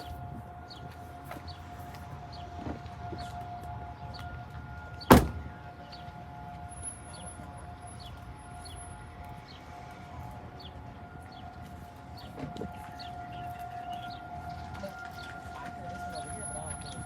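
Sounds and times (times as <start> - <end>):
warning siren steady tone: 0.0 - 17.0.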